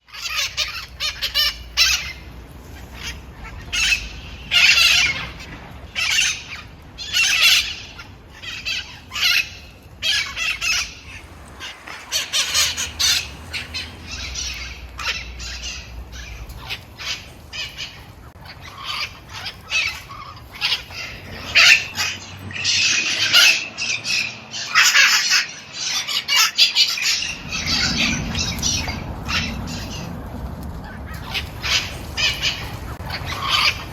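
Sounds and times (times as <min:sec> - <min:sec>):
parrots squawking: 0:00.0 - 0:33.9.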